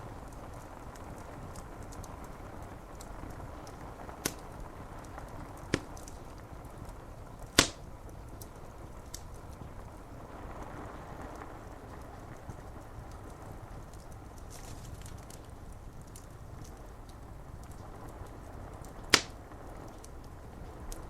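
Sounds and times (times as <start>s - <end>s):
rain on window glass: 0.0s - 21.0s
wood fire crackling: 0.0s - 21.0s
burning wood popping: 0.1s - 10.3s, 10.9s - 21.0s.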